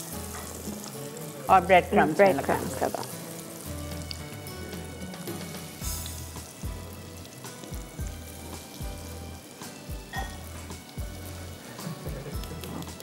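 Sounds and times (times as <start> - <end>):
background music: 0.0 - 13.0
oil sizzling in frying pan: 0.0 - 13.0.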